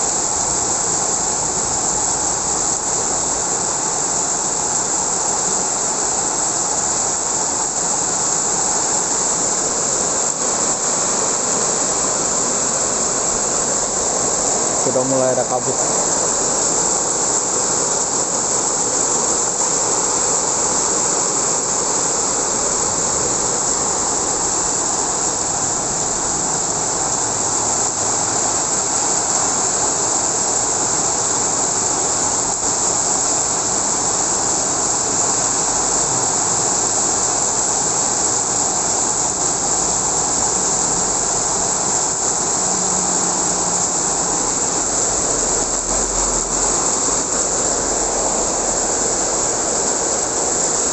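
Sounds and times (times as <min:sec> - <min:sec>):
heavy rain pouring: 0:00.0 - 0:50.9
strong wind: 0:00.0 - 0:50.9.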